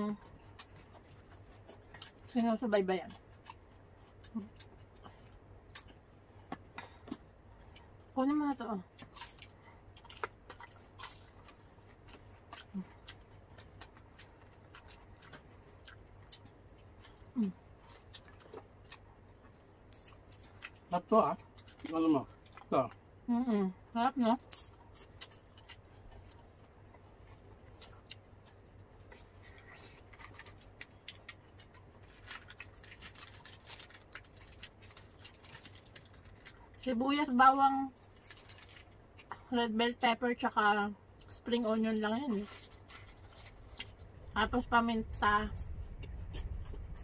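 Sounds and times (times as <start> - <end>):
person chewing food: 0.0 - 2.4, 3.0 - 8.1, 8.9 - 23.0, 24.4 - 36.8, 42.4 - 44.4, 45.1 - 47.0.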